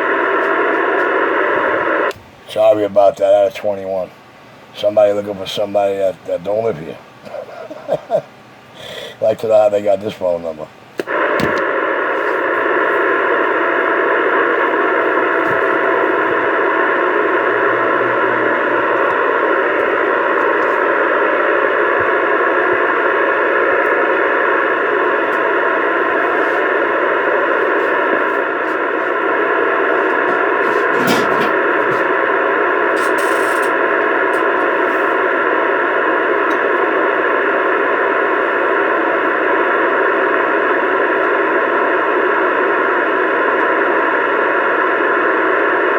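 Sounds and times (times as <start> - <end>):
radio click: 0.0 - 2.2, 10.9 - 45.9
radio static hiss: 0.0 - 45.9.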